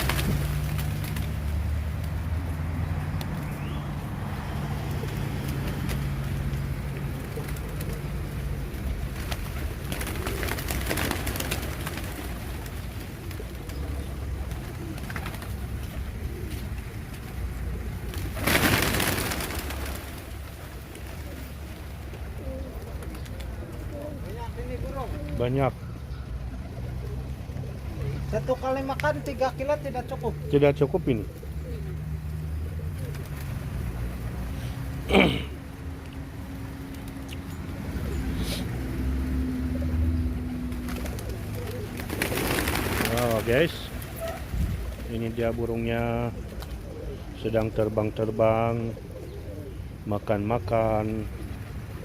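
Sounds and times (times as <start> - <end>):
birds cooing: 0.0 - 52.0.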